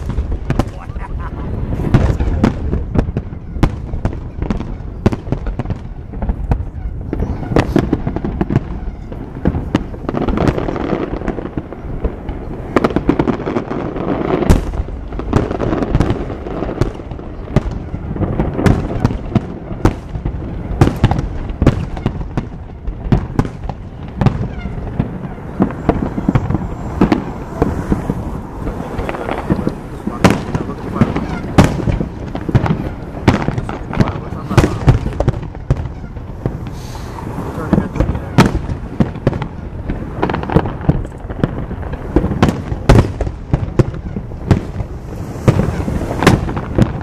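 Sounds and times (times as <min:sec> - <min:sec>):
firework shells bursting: 0:00.0 - 0:47.0.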